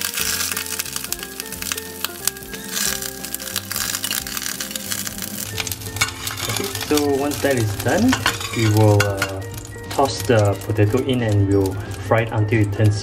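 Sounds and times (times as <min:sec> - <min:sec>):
background music with bass line: 0:00.0 - 0:13.0
butter sizzling in hot oil: 0:00.0 - 0:13.0.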